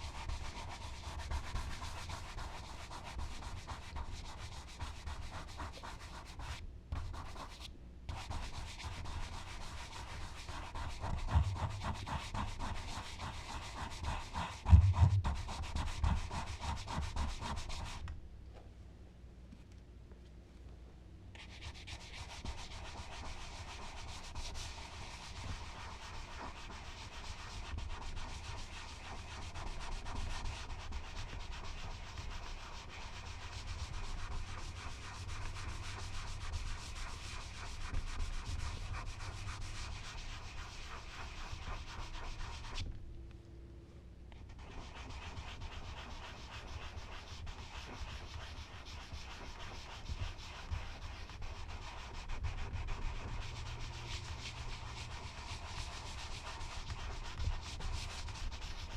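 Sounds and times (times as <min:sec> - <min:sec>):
charcoal scratching on paper: 0:00.0 - 0:18.0, 0:21.4 - 0:42.8, 0:44.4 - 0:58.9.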